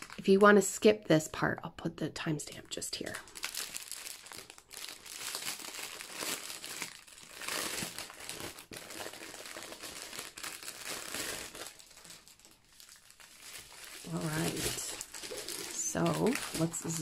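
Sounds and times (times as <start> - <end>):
plastic packaging crinkling: 0.0 - 0.2, 3.0 - 17.0.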